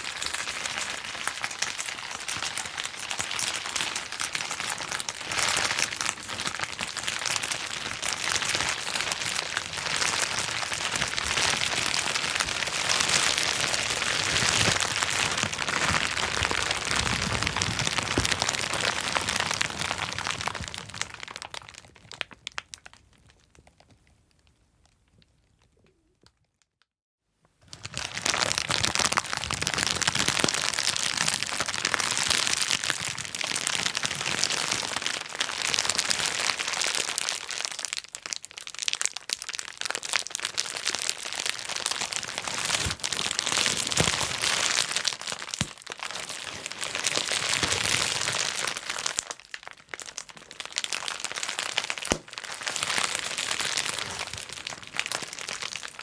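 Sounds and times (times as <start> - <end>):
bubble wrap popping: 0.0 - 26.4, 27.6 - 56.0.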